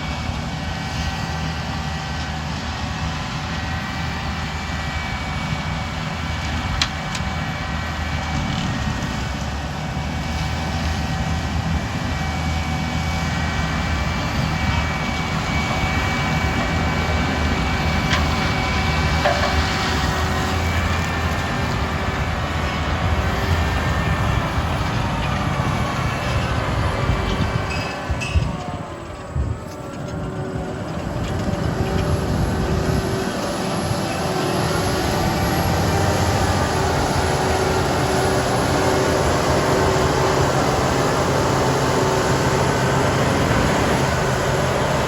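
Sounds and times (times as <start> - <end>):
low engine drone: 0.0 - 45.0
thin steady whines: 0.0 - 45.0.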